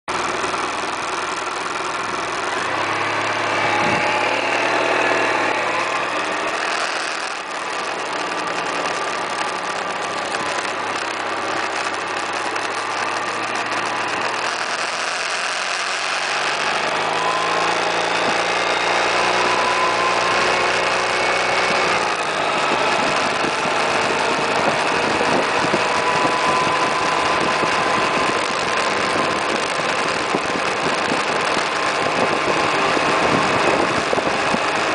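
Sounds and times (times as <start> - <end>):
scooter engine running: 0.1 - 34.9
wind and road noise: 0.1 - 34.9.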